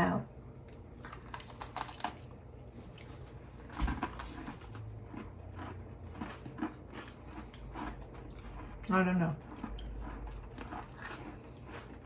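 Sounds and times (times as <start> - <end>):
person chewing cookies: 0.5 - 12.0.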